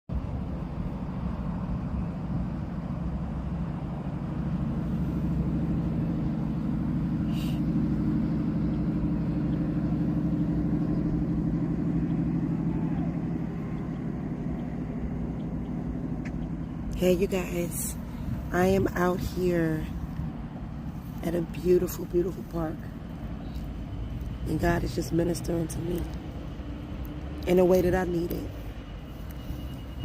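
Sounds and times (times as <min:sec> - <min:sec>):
low engine hum: 0:00.1 - 0:30.0.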